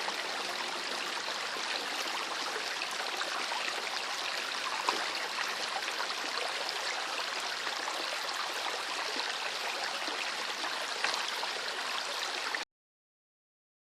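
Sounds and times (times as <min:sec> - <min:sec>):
river water rushing over stones: 0:00.0 - 0:12.4.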